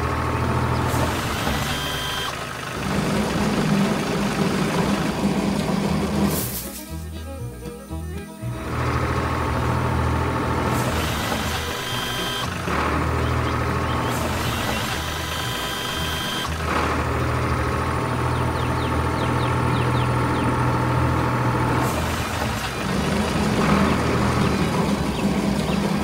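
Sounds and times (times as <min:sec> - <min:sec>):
motor hum: 0:00.0 - 0:26.0.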